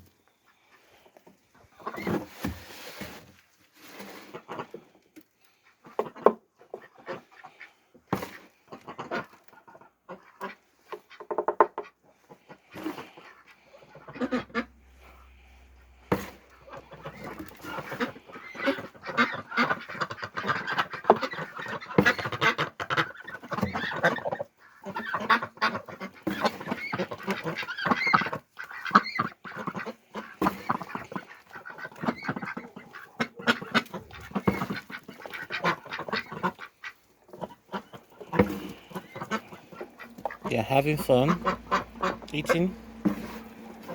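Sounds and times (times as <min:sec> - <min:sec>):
ducks quacking: 0:04.2 - 0:43.9.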